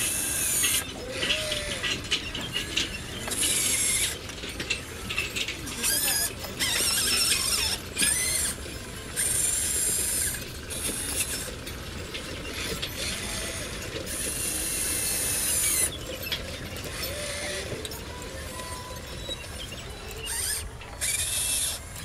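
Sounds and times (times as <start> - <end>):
low mechanical running sound: 0.0 - 22.0
small electric motors whining: 0.0 - 22.0.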